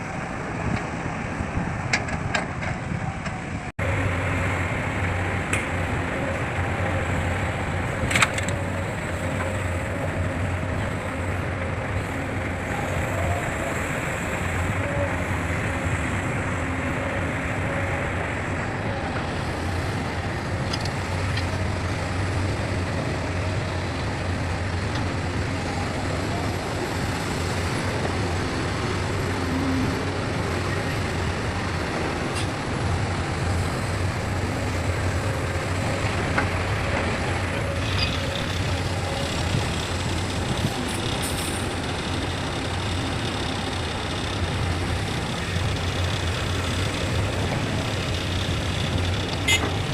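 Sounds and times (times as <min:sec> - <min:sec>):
diesel machinery engine drone: 0:00.0 - 0:49.9.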